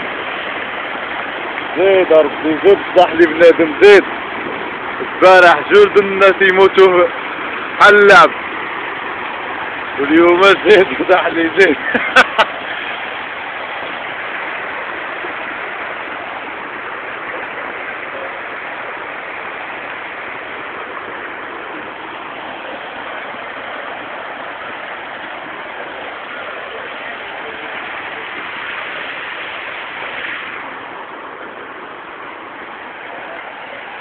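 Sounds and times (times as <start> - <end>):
heavy rain falling: 0.0 - 34.0
water rushing along a street: 0.0 - 34.0.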